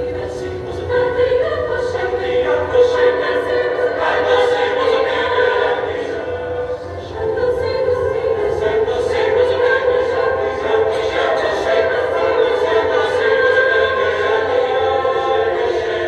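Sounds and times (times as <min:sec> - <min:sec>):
mixed choir singing in harmony: 0:00.0 - 0:16.0
piano accompaniment: 0:00.0 - 0:16.0.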